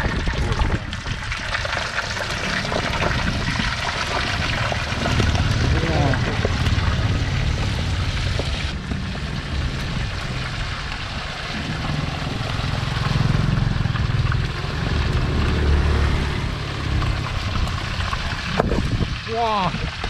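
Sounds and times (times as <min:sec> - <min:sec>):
food sizzling in hot oil: 0:00.0 - 0:20.0
motorbike street traffic: 0:02.4 - 0:19.6.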